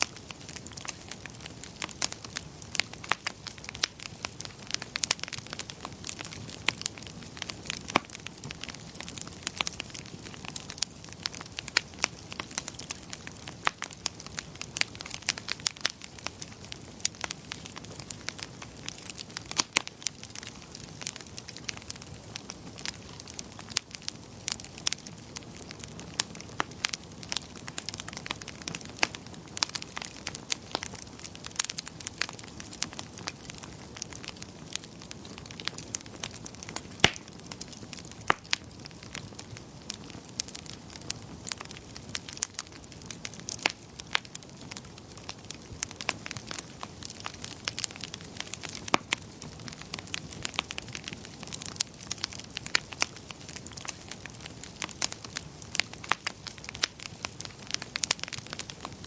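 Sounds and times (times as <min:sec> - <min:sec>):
low fire hiss: 0:00.0 - 0:59.0
wood fire crackling: 0:00.0 - 0:59.0.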